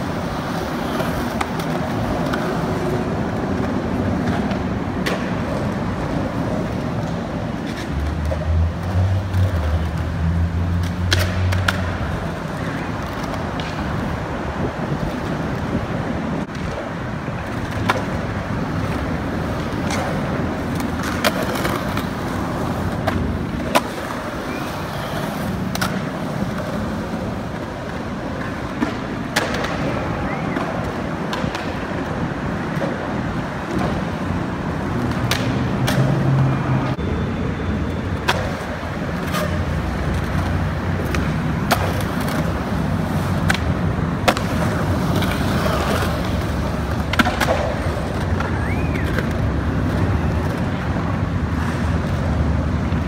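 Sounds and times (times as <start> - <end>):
skateboard clacks: 0.0 - 53.0
skateboard wheels rolling on concrete: 0.0 - 53.0.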